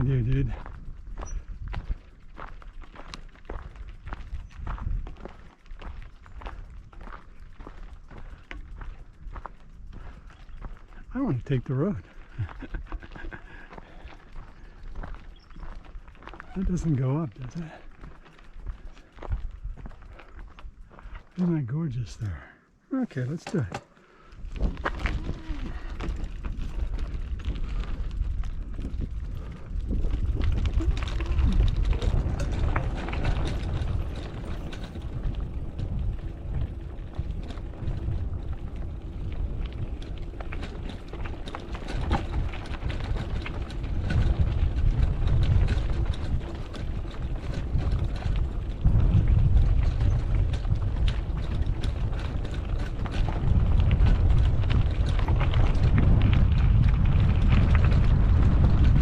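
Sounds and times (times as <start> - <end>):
bike clicking and rattling: 0.0 - 21.4, 23.3 - 59.0
wind buffeting microphone: 0.0 - 21.4, 24.2 - 59.0.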